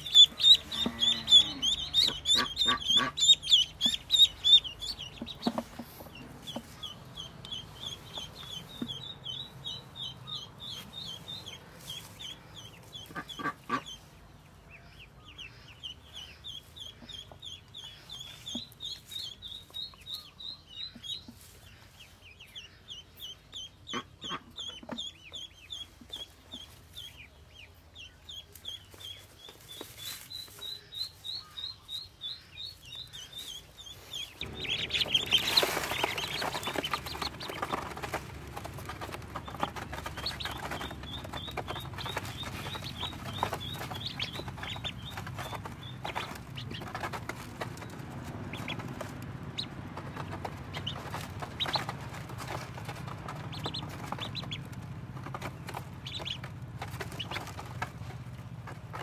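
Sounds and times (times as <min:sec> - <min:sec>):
ducklings peeping: 0:00.0 - 0:59.0.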